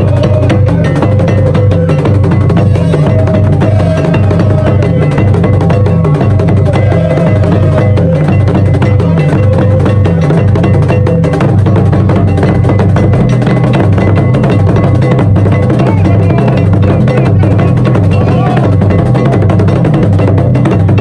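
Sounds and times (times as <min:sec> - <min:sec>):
drum ensemble playing: 0:00.0 - 0:21.0.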